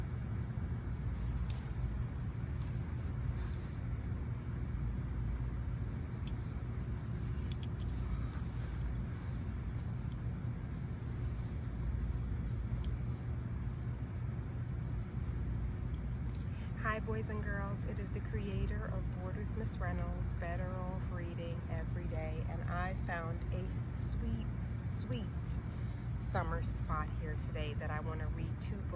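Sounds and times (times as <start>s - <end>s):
crickets trilling: 0.0s - 28.9s
low steady rumble: 0.0s - 28.9s.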